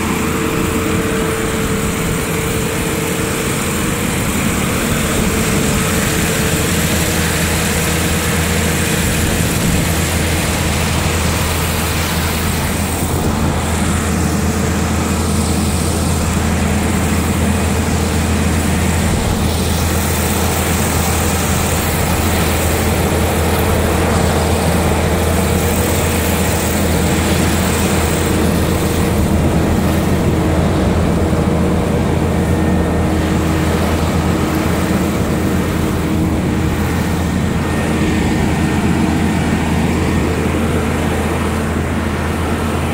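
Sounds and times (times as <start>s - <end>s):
heavy engine running steadily: 0.0s - 42.9s.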